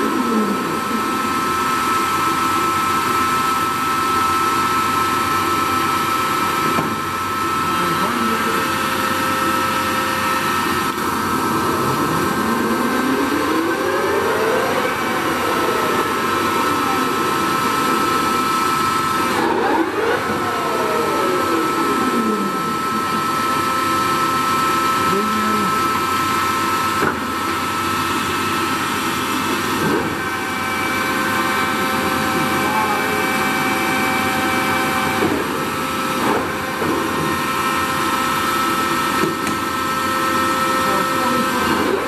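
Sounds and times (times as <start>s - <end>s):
lathe high whine: 0.0s - 42.0s.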